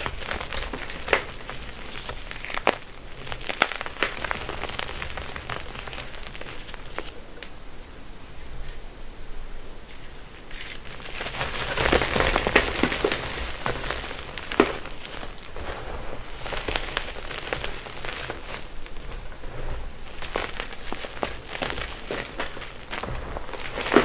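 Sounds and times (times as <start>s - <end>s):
chalk crunching by hand: 0.0s - 7.2s, 10.4s - 24.0s
sharp crack: 0.0s - 7.6s, 10.0s - 24.0s.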